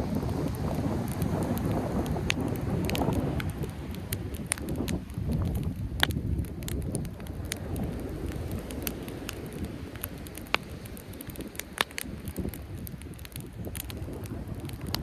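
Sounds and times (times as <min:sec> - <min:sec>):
campfire crackling: 0:00.0 - 0:15.0
sharp pops of fire: 0:00.0 - 0:15.0.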